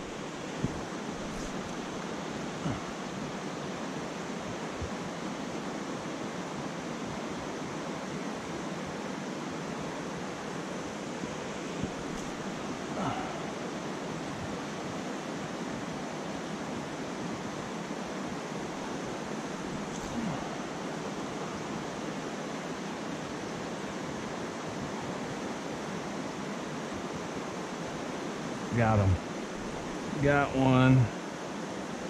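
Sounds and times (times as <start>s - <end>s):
stream water rushing over rocks: 0.0s - 32.0s.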